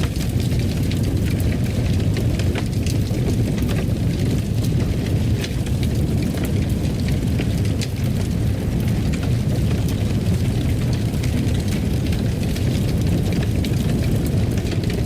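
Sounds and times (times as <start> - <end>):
fire crackling and popping: 0.0 - 15.0
low rush of flames: 0.0 - 15.0.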